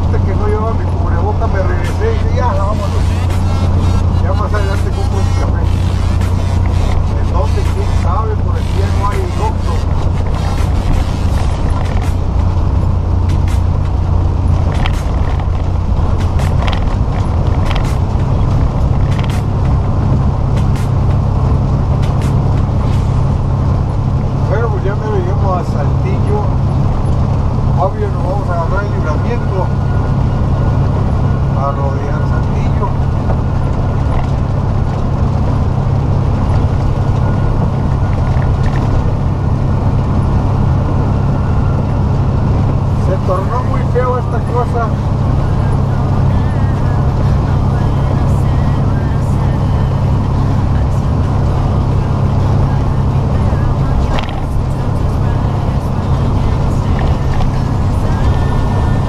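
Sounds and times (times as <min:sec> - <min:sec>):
diesel engine and road noise: 0:00.0 - 0:59.0.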